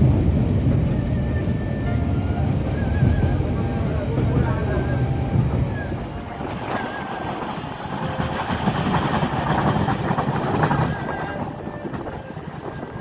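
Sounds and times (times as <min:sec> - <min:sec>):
train wheel and track noise: 0:00.0 - 0:13.0.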